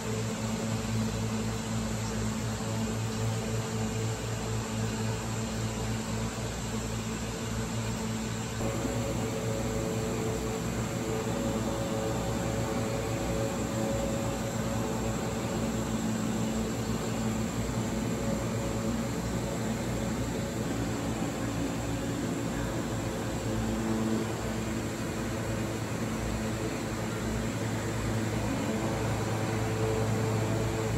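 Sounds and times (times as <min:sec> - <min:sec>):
aquarium equipment hum and hiss: 0:00.0 - 0:30.9
constant low tones: 0:00.0 - 0:30.9.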